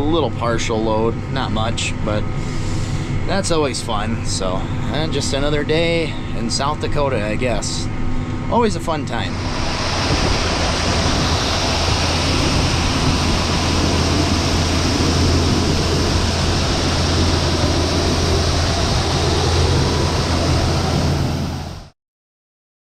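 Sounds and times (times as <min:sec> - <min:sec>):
vehicle engine running: 0:01.8 - 0:21.9.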